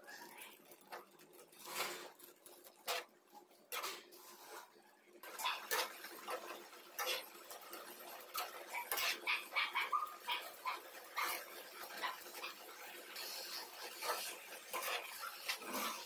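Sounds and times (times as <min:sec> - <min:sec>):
metal spatula scraping frying pan: 0:00.9 - 0:16.0.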